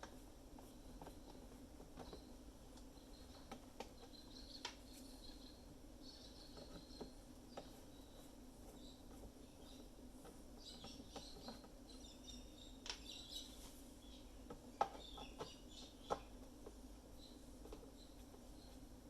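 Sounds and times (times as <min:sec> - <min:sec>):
steady low hum: 0:00.0 - 0:19.0
faint high chirping: 0:00.1 - 0:19.0.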